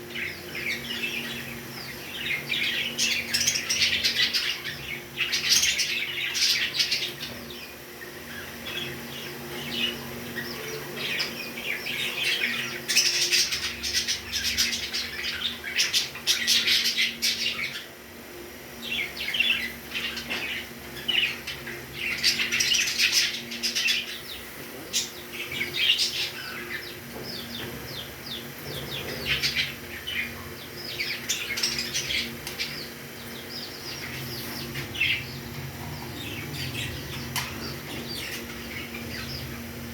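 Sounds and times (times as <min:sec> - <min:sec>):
parrots chirping: 0:00.0 - 0:17.9, 0:18.8 - 0:39.9.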